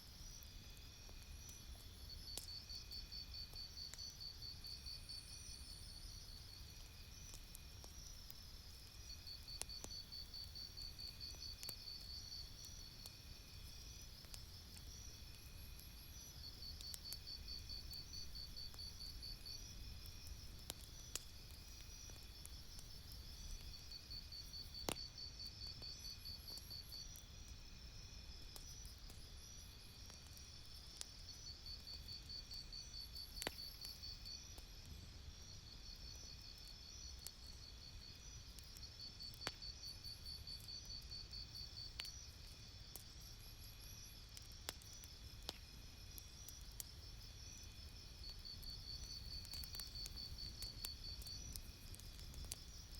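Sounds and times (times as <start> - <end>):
campfire popping: 0.1 - 52.9
insects chirping: 0.2 - 52.9.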